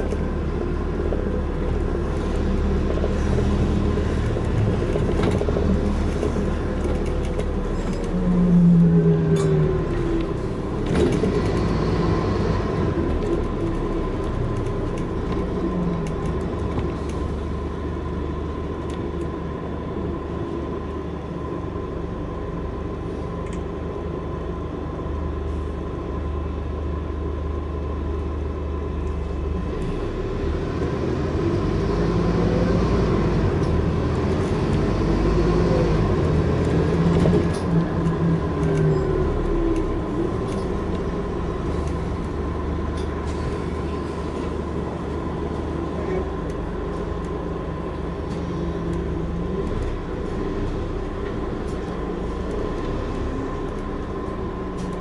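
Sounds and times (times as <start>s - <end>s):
bus diesel engine running: 0.0s - 55.0s
low road rumble: 0.0s - 55.0s.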